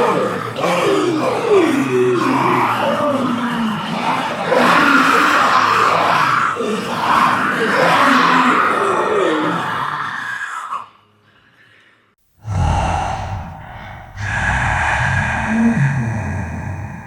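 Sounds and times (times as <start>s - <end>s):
raspy zombie groans: 0.0s - 10.9s, 12.4s - 17.0s.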